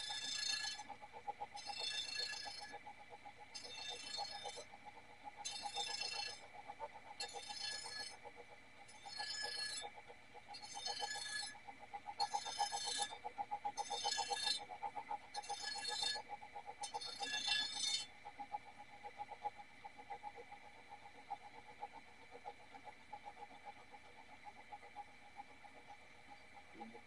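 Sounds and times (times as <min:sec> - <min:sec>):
faint pulsing hum: 0:00.0 - 0:27.0.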